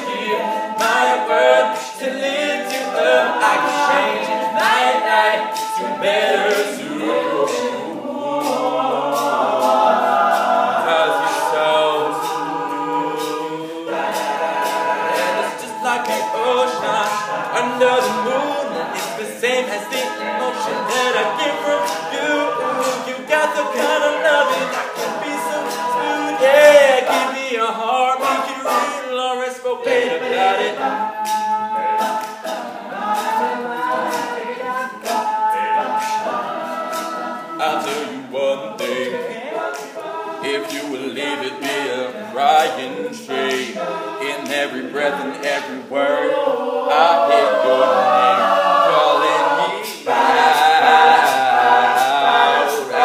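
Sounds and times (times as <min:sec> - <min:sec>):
vocal percussion clicks: 0:00.0 - 0:46.2, 0:49.0 - 0:53.0
male group singing in harmony: 0:00.0 - 0:53.0.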